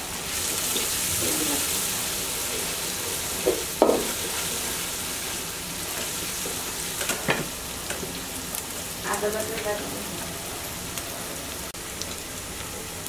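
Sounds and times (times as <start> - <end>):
onions sizzling in hot fat: 0.0 - 13.0.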